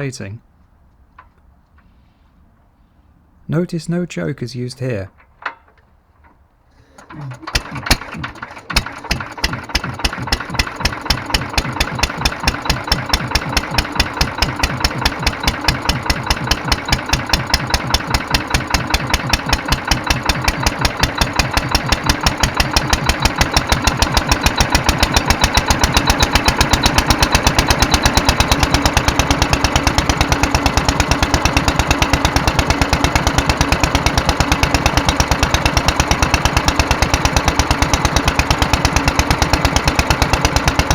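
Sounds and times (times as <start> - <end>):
stationary engine starting and running: 6.8 - 40.9.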